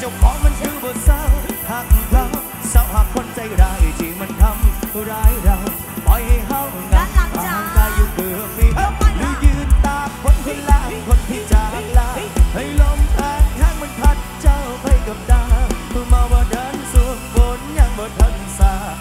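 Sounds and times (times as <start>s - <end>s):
live band playing: 0.0s - 19.0s
person singing: 0.0s - 19.0s.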